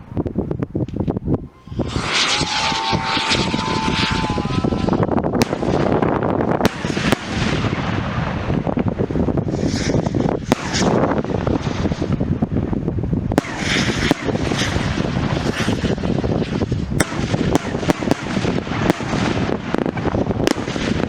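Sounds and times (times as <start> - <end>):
fireworks bangs and crackles: 0.0 - 21.0
firework whistling: 1.4 - 12.7, 13.3 - 21.0
sharp firework cracks: 1.7 - 12.5, 13.3 - 21.0.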